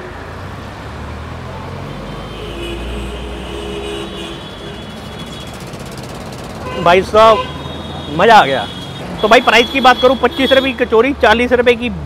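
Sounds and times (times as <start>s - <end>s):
vehicle engine rumbling: 0.0s - 11.6s.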